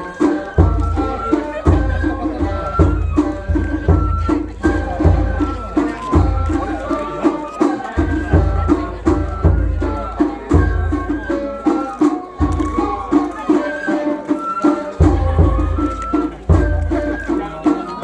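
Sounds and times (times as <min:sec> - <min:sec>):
bamboo flute melody: 0:00.0 - 0:18.0
fast small drum rhythm: 0:00.0 - 0:18.0.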